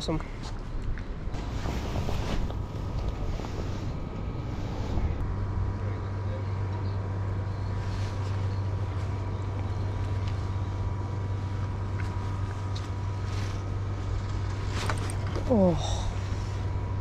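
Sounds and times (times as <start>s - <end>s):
low engine hum: 0.0s - 17.0s
faint high whine: 1.2s - 17.0s.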